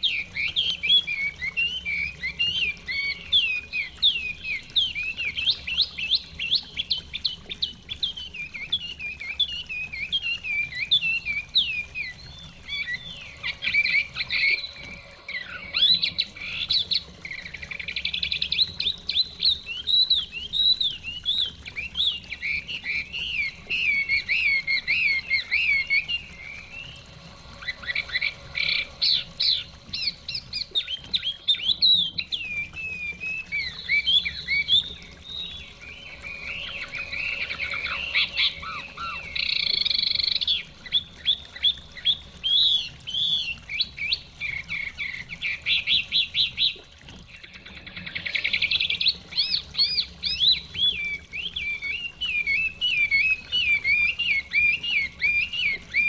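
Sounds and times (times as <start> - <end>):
bird singing whistled trills: 0.0 - 46.8, 47.4 - 56.0.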